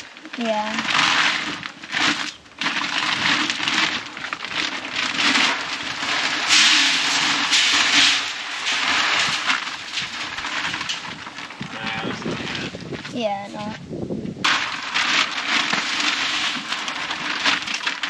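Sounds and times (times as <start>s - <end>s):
feed pellets pouring into barrel: 0.0s - 13.2s, 14.4s - 18.0s.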